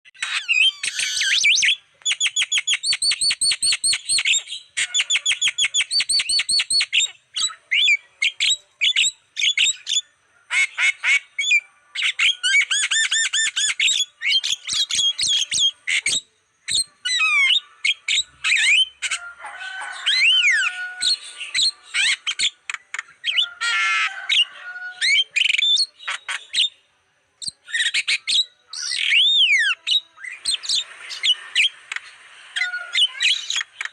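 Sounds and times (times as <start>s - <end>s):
bird chattering and squawking: 0.2s - 26.8s, 27.4s - 33.9s.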